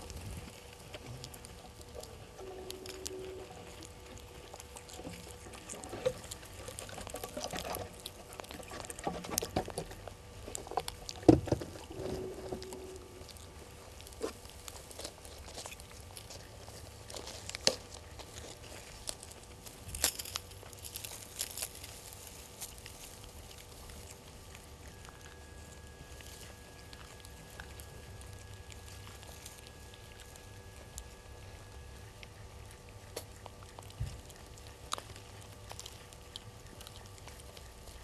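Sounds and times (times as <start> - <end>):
dry leaves crackling and rustling: 0.0 - 32.3.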